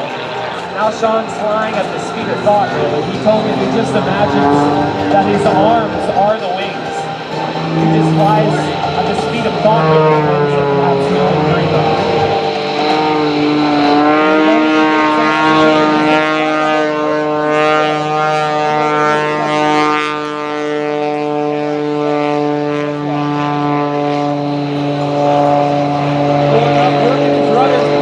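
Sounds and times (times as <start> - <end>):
biplane engine and propeller: 0.0 - 28.0.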